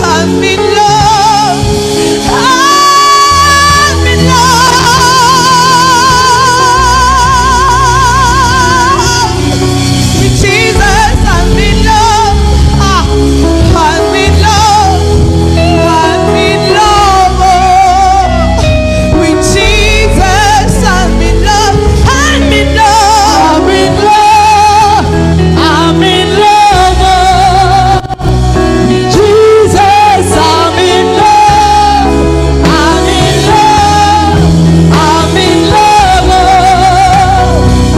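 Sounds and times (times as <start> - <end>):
held low chords and bass: 0.0 - 37.9
solo singer with vibrato: 0.0 - 37.9.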